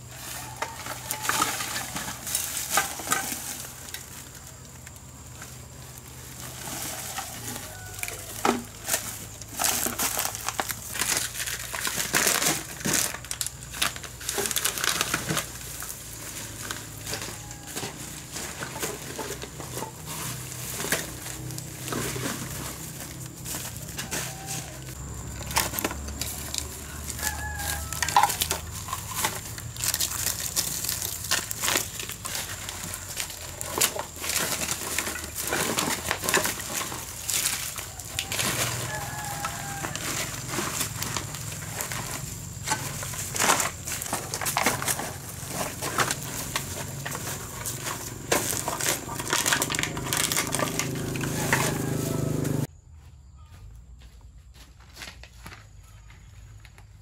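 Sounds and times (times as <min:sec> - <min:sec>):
plastic sack rustling: 0:00.0 - 0:52.7
dry leaves crunching underfoot: 0:00.0 - 0:57.0.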